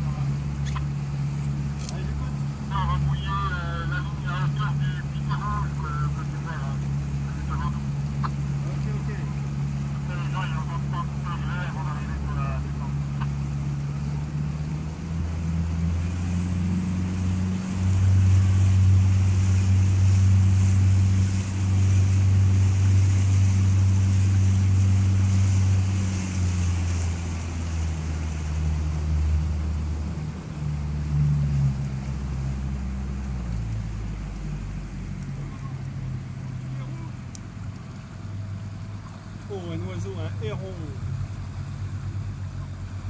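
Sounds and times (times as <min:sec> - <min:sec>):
boat motor humming: 0:00.0 - 0:43.0
water hissing: 0:00.0 - 0:43.0.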